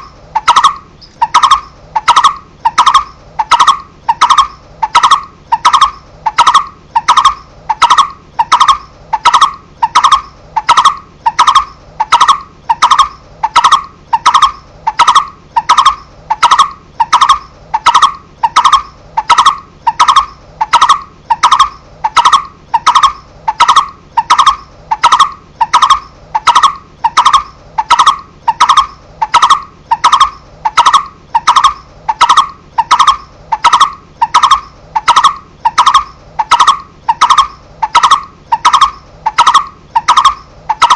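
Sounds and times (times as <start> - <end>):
barbet calling: 0.0 - 40.9.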